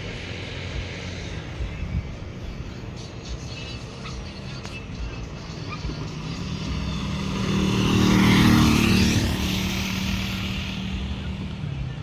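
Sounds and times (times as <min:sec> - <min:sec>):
motor vehicle passing by: 0:00.0 - 0:12.0.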